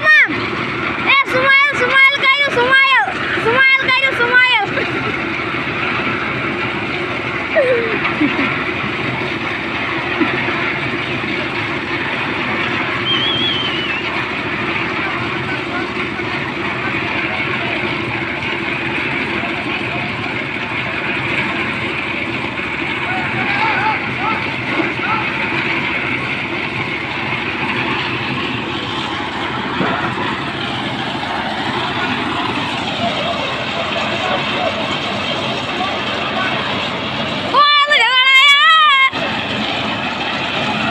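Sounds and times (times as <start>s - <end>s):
machine running: 0.0s - 40.9s.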